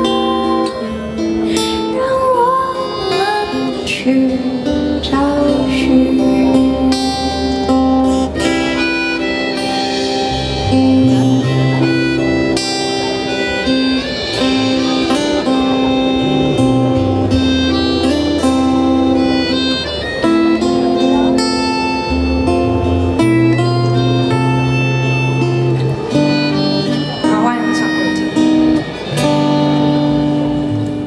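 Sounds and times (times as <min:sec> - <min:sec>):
accordion chords: 0:00.0 - 0:31.0
live band playing pop: 0:00.0 - 0:31.0
bass line: 0:04.4 - 0:31.0.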